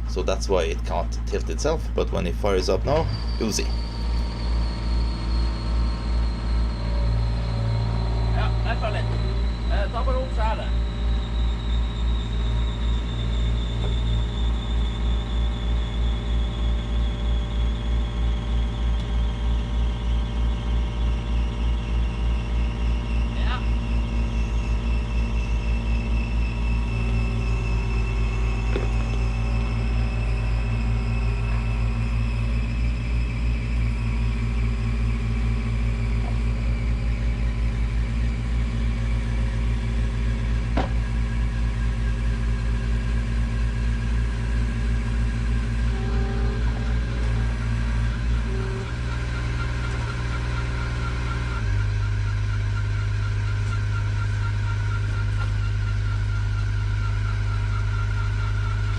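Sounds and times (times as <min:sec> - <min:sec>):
excavator diesel engines under load: 0:00.0 - 0:58.9.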